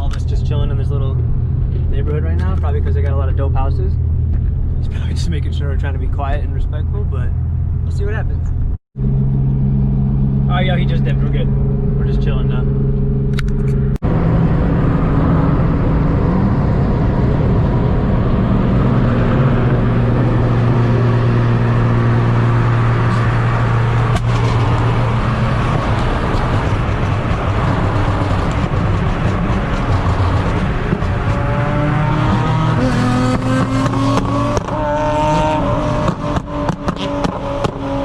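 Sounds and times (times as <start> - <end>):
car engine running: 0.0 - 38.0
road and wind noise: 0.0 - 38.0.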